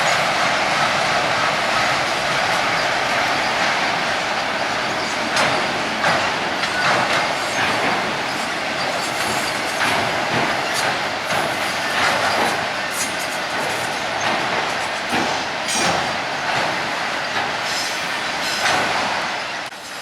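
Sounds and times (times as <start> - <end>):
freight train rattling past: 0.0 - 20.0
wheel clacks: 0.1 - 19.0.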